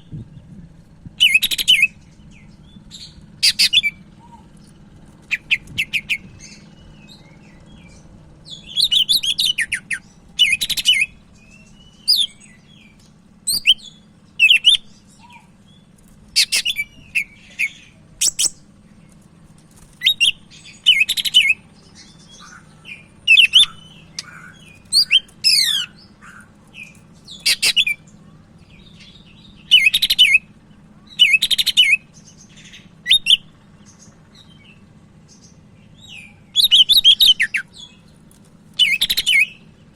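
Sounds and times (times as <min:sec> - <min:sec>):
faint low hum: 0:00.0 - 0:39.9
bird whistling song: 0:01.2 - 0:18.6, 0:20.0 - 0:28.1, 0:28.7 - 0:30.5, 0:31.1 - 0:38.1, 0:38.8 - 0:39.8.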